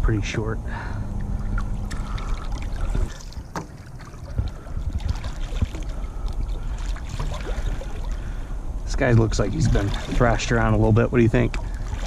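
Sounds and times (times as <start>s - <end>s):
water splashing: 1.2s - 12.0s.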